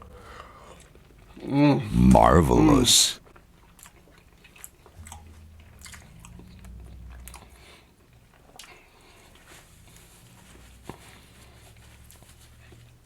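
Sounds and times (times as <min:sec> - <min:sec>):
close chewing mouth sounds: 0:00.0 - 0:02.0, 0:03.2 - 0:13.0.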